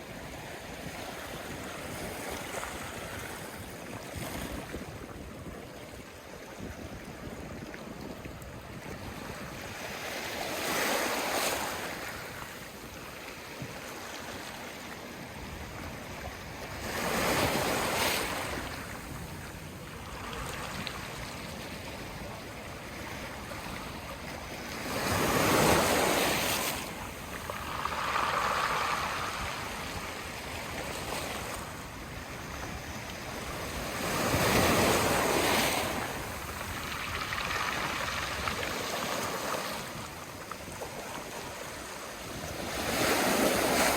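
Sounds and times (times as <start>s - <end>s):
sea waves washing on shore: 0.0s - 43.9s.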